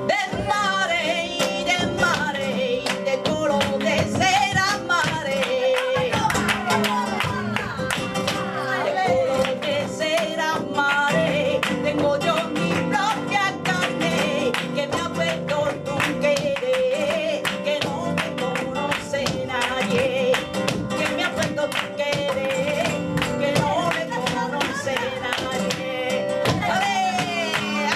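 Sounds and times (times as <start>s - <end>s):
acoustic guitar playing: 0.0s - 27.9s
person singing: 0.0s - 27.9s.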